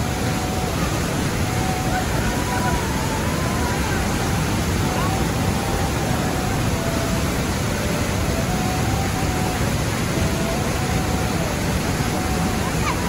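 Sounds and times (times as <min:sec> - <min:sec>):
shallow stream flowing: 0:00.0 - 0:13.0
waterfall rushing: 0:00.0 - 0:13.0.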